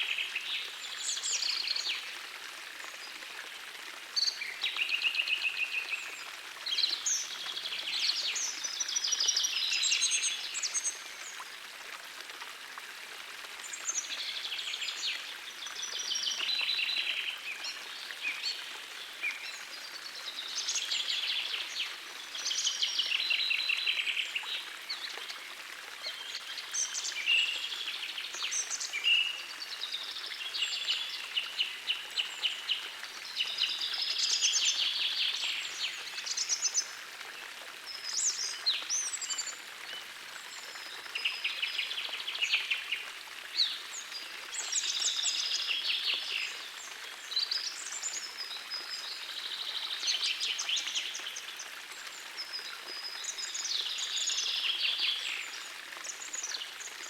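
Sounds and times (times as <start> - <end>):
gentle stream rushing: 0.0 - 57.0.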